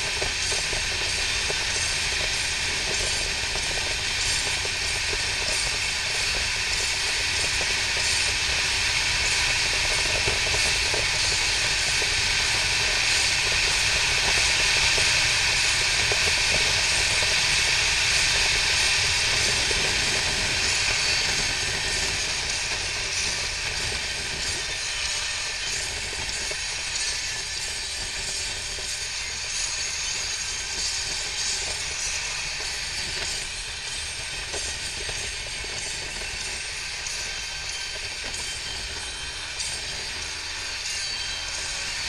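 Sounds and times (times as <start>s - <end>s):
motorcycle engine: 0.0s - 42.0s.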